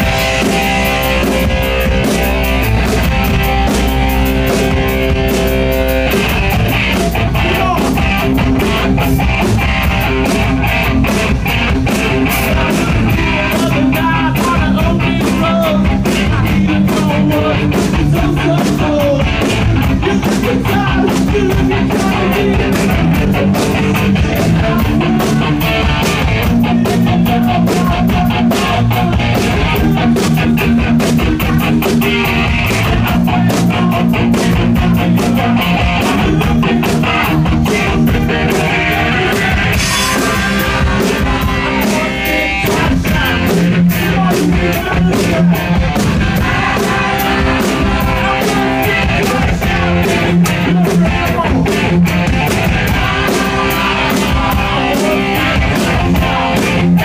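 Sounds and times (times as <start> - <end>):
drum kit beat: 0.0 - 57.0
electric guitar: 0.0 - 57.0
person singing: 6.9 - 9.5, 11.9 - 30.4, 31.2 - 57.0.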